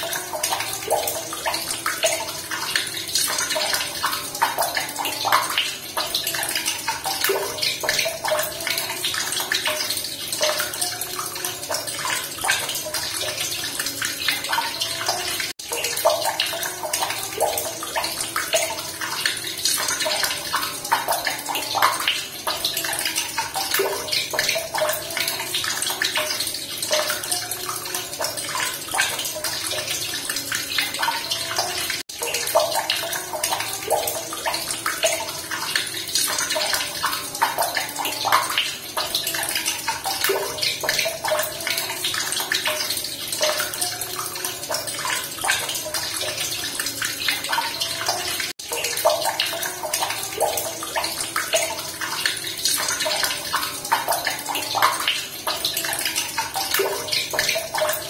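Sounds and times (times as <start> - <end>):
running water splashing and gurgling: 0.0 - 58.0.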